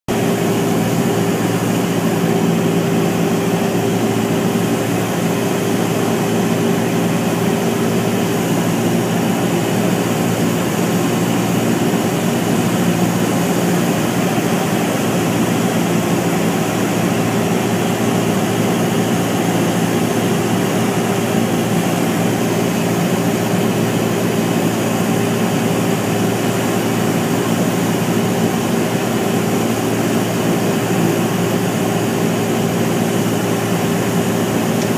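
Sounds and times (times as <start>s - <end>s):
airplane engine drone: 0.1s - 34.9s.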